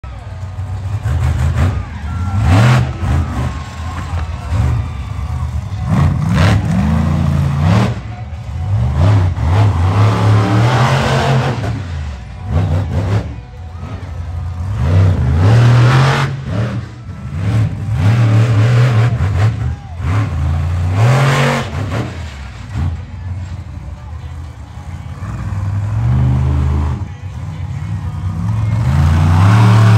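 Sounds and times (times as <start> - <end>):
monster truck engines revving: 0.0 - 29.9.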